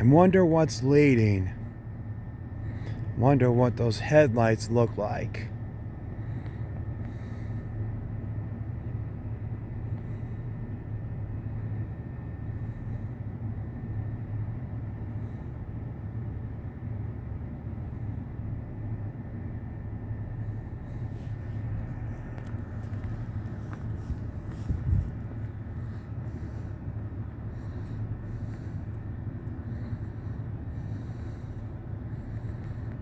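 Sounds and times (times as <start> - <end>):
distant diesel freight train rumble: 0.0 - 33.0.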